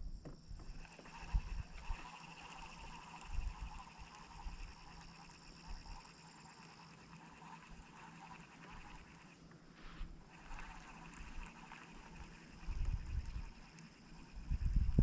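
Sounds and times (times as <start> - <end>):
insect chorus trilling: 0.2 - 9.1, 10.4 - 15.0.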